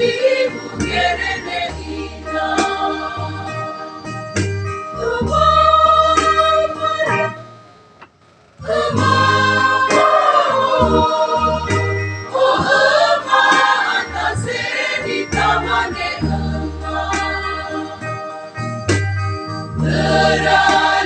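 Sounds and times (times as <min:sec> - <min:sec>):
choir singing a hymn: 0:00.0 - 0:04.2, 0:04.9 - 0:07.5, 0:08.6 - 0:18.6, 0:19.5 - 0:21.0.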